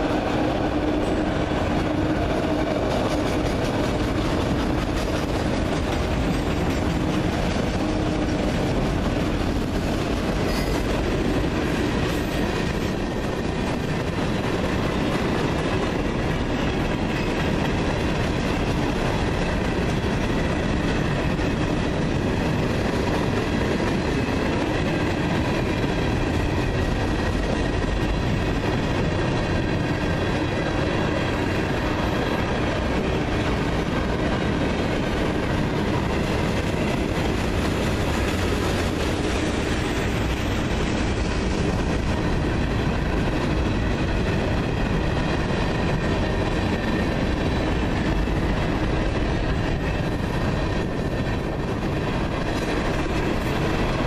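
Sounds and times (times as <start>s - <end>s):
freight train rolling past: 0.0s - 54.0s
steel wheels rattling on rails: 0.0s - 54.0s.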